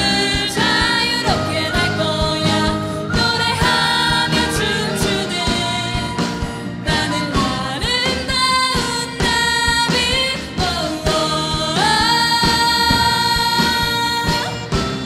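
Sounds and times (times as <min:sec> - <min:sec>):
people singing pop-rock melody: 0:00.0 - 0:15.0
steady drum beat: 0:00.0 - 0:15.0.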